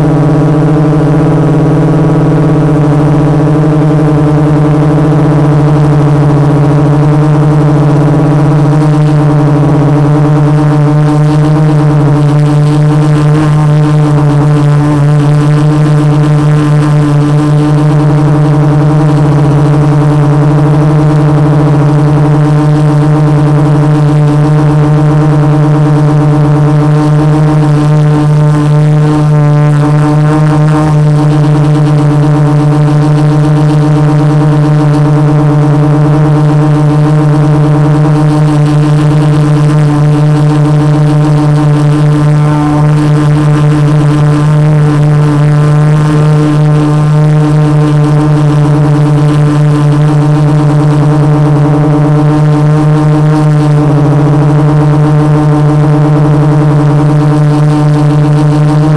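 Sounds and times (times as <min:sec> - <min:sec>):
quadcopter motors humming: 0:00.0 - 0:58.9.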